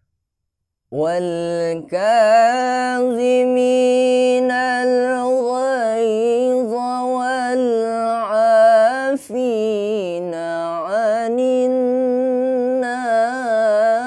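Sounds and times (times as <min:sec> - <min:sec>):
man reciting melodically: 0:00.9 - 0:14.0.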